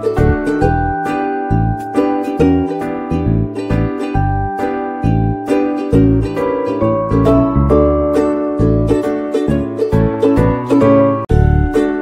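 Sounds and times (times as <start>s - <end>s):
light instrumental music: 0.0s - 12.0s.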